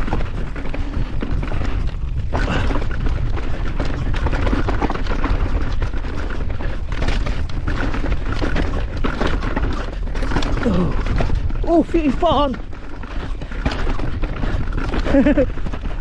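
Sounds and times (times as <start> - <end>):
bike rattling and knocking: 0.0 - 16.0
wind rumble on microphone: 0.0 - 16.0.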